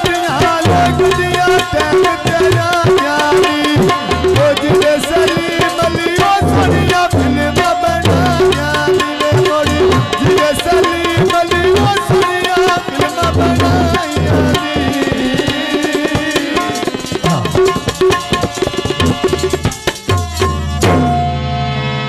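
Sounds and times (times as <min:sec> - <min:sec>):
fast hand drum rhythm: 0:00.0 - 0:21.2
folk melody: 0:00.0 - 0:22.0.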